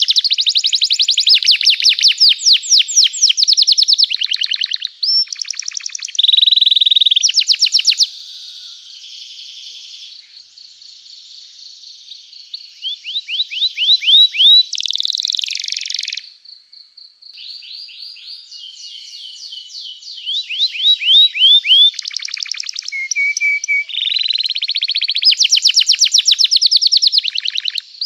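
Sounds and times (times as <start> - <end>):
canary singing trills: 0.0 - 16.3, 17.3 - 28.0.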